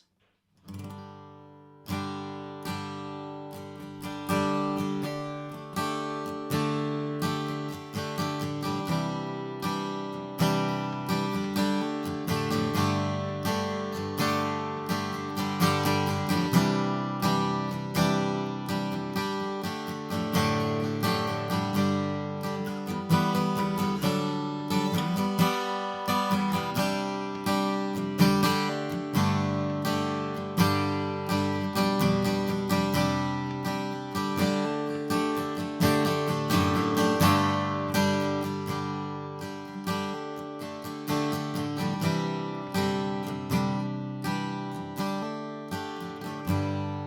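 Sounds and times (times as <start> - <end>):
acoustic guitar strummed chords: 0.7 - 47.0.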